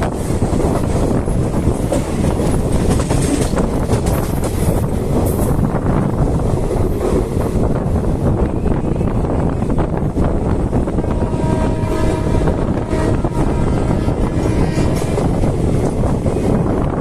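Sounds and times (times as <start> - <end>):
train rumbling on rails: 0.0 - 17.0
wind noise on microphone: 0.0 - 17.0.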